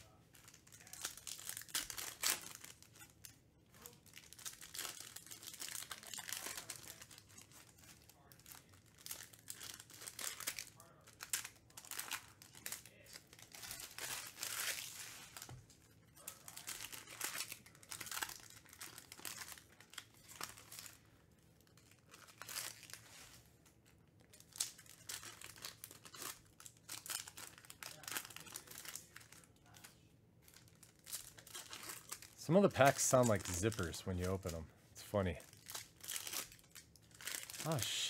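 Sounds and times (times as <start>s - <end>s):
foil crinkling: 0.0s - 21.0s, 21.6s - 38.0s
foil wrappers tearing: 0.4s - 21.0s, 21.7s - 23.4s, 24.3s - 38.0s.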